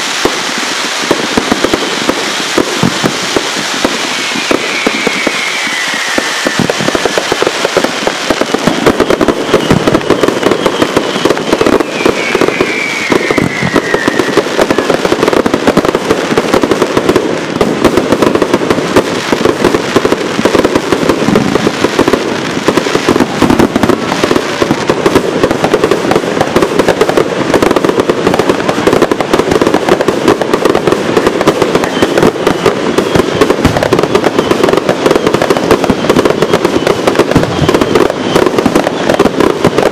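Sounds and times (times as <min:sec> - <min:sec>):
fireworks bangs and crackling: 0:00.0 - 0:39.9
fireworks falling whistles: 0:00.0 - 0:39.9.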